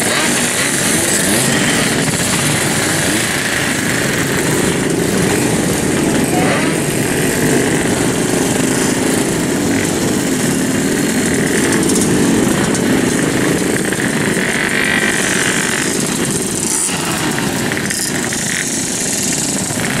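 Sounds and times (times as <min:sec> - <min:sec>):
motorcycles revving past: 0:00.0 - 0:20.0.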